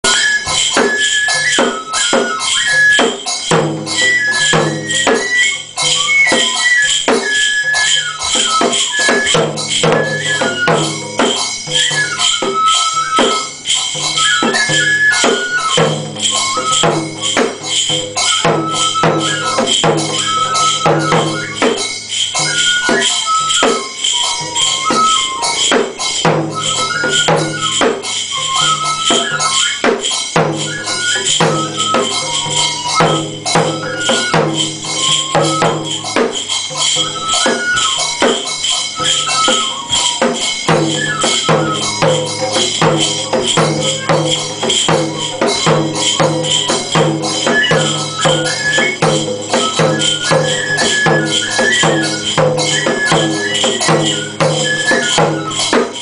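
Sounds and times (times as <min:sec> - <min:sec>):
bamboo flute melody: 0:00.0 - 0:56.0
hand bells jingling: 0:00.0 - 0:56.0
taiko drum beats: 0:00.0 - 0:56.0.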